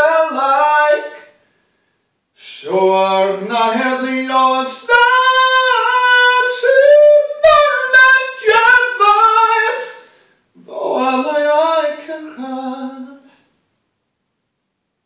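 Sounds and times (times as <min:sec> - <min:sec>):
man singing unaccompanied: 0:00.0 - 0:01.4, 0:02.4 - 0:13.4.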